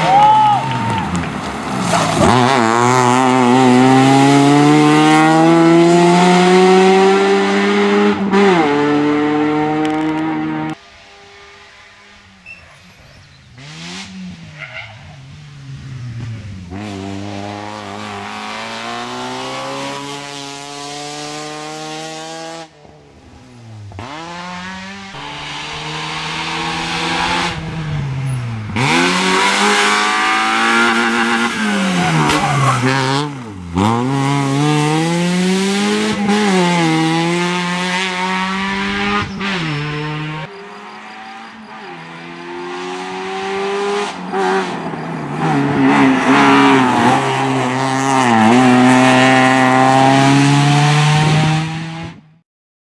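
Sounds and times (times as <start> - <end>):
rally car engine revving: 0.9 - 22.8, 23.5 - 52.4.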